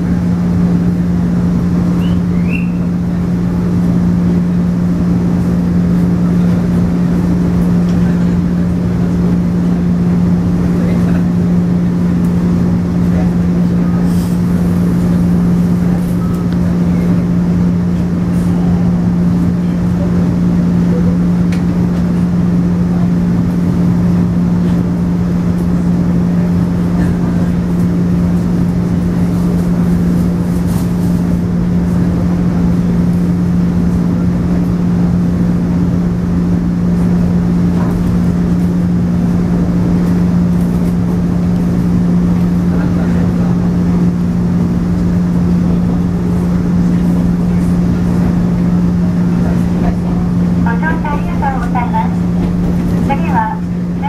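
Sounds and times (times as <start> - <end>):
electric train motor hum: 0.0 - 54.0
wheels rumbling on track: 0.0 - 54.0.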